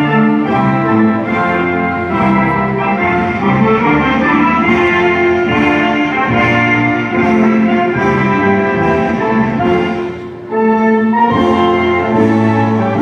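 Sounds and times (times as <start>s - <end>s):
orchestral brass and strings: 0.0s - 13.0s.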